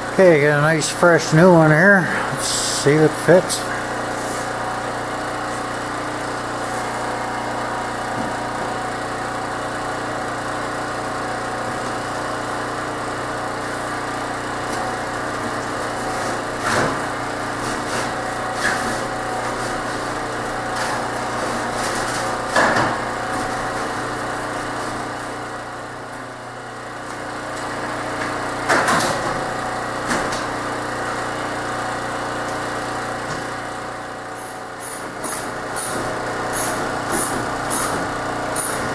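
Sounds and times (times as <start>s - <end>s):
motor humming: 0.0s - 38.9s.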